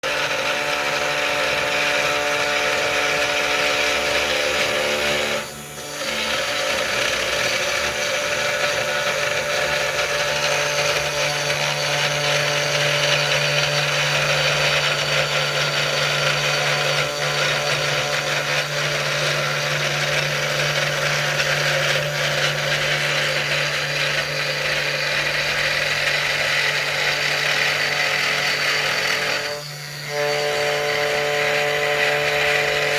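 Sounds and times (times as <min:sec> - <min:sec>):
cnc router motor whine: 0:00.0 - 0:32.9.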